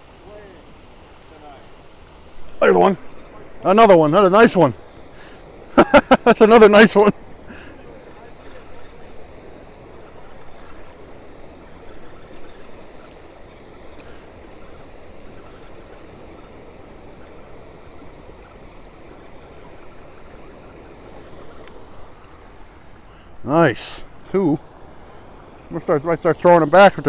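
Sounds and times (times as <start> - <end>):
water churning through spillway: 0.0 - 27.0.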